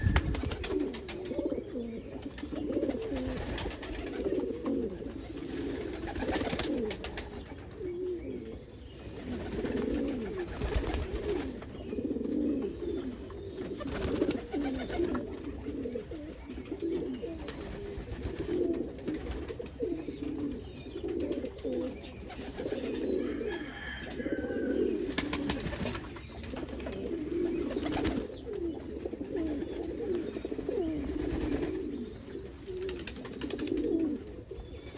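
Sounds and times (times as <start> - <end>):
pigeons cooing: 0.0 - 34.9.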